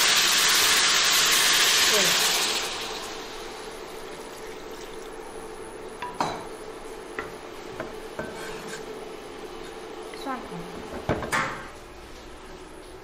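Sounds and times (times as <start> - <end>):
faint steady hum: 0.0 - 13.0
pork simmering in wok: 0.0 - 13.0.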